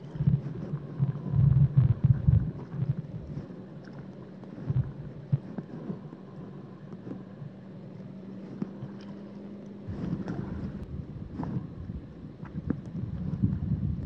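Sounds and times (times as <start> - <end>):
steady low hum: 0.0 - 14.0
underwater rumble of surging water: 0.0 - 14.0.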